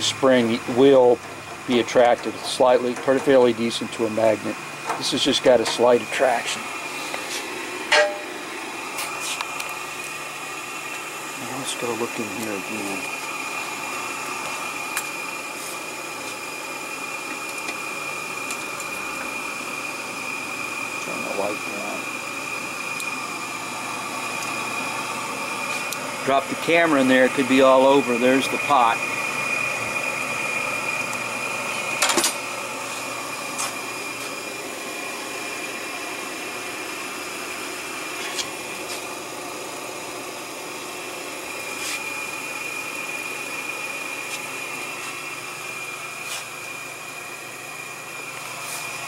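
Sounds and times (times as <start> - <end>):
blower fan whining: 0.0 - 49.0.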